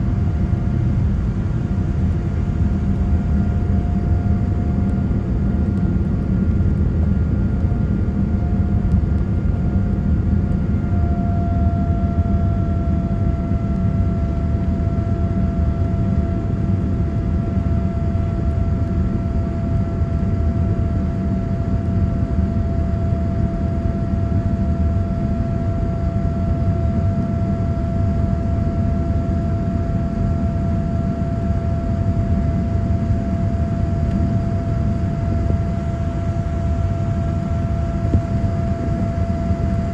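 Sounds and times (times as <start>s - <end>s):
constant jet engine whine: 0.0s - 39.9s
jet engine cabin rumble: 0.0s - 39.9s.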